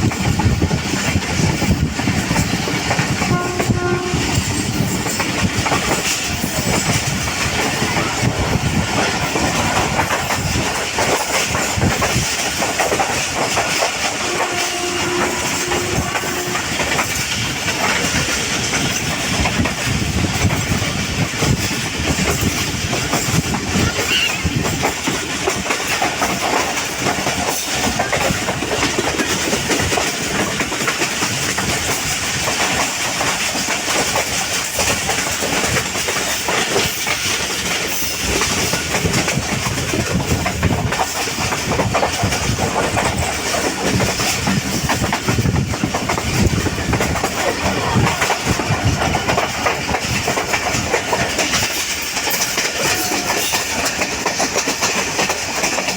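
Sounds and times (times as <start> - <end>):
train wheels clickety-clack: 0.0 - 55.9.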